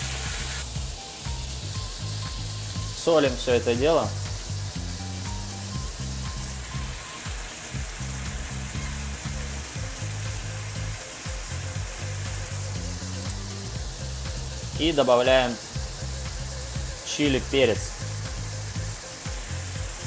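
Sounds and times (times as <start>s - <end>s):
vegetables sizzling in a saucepan: 0.0s - 20.0s.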